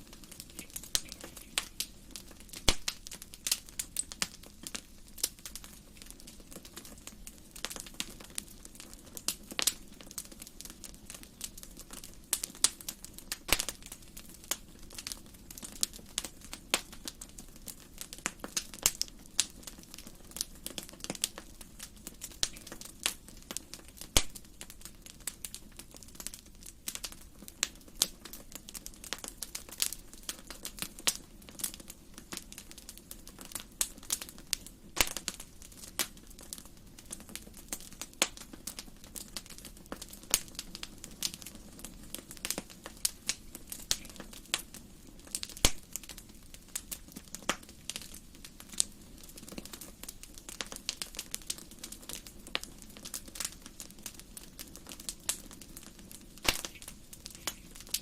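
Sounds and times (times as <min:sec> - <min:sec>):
soft rush of burning: 0:00.0 - 0:58.0
wood fire crackling and popping: 0:00.0 - 0:58.0.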